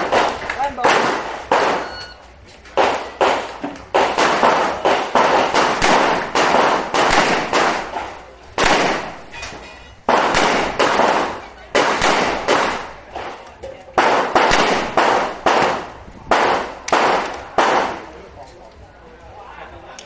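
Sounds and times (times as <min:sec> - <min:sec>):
revolver gunshots with echo: 0:00.0 - 0:02.0, 0:02.7 - 0:09.4, 0:10.0 - 0:13.4, 0:14.0 - 0:18.2.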